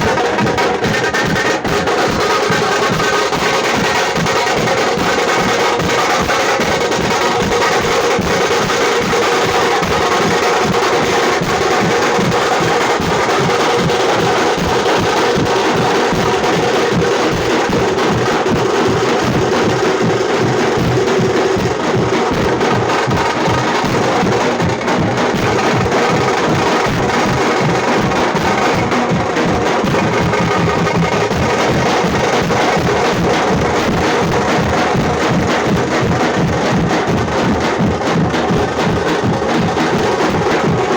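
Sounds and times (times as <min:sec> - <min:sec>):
frame drum beaten with sticks: 0:00.0 - 0:40.9.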